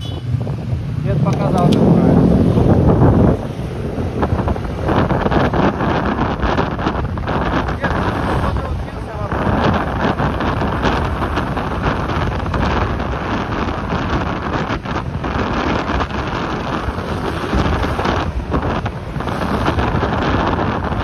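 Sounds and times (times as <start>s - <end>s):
low rumble: 0.0s - 21.0s
wind buffeting microphone: 0.0s - 21.0s.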